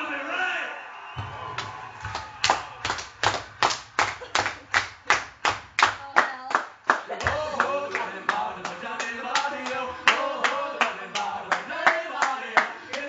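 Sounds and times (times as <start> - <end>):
man clapping hands: 1.6 - 13.0.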